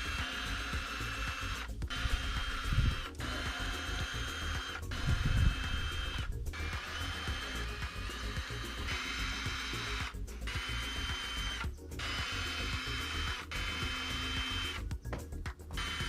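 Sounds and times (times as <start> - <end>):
background music: 0.0 - 16.0
power tool whining: 0.0 - 16.0.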